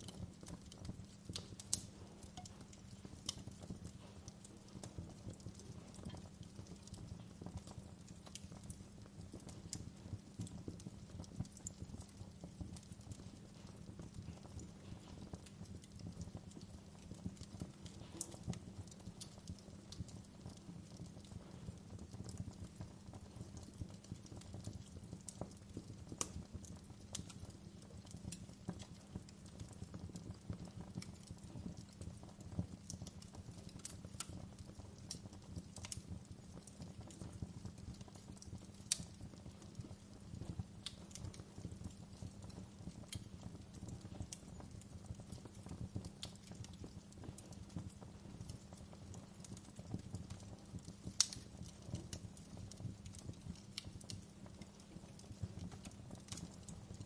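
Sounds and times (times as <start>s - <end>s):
low rumble of flames: 0.0s - 57.0s
sharp crackles and pops: 0.0s - 57.0s.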